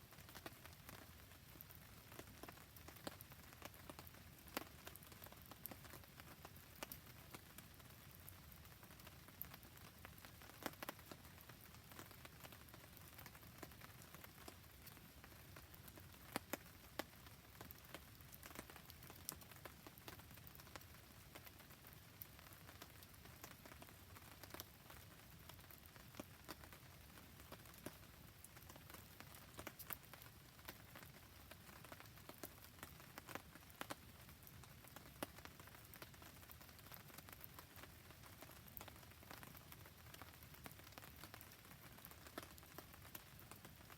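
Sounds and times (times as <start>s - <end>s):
faint steady rain: 0.0s - 43.9s
wood fire crackling: 0.1s - 43.9s.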